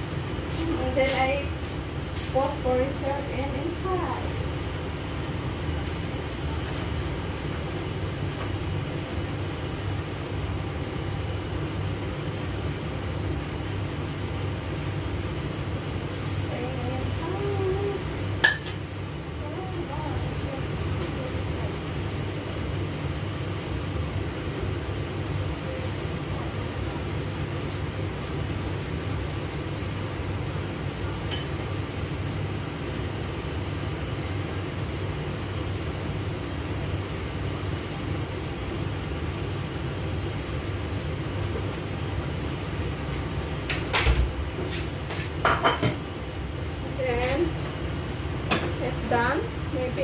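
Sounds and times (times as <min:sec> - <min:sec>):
range hood fan whirring: 0:00.0 - 0:50.0.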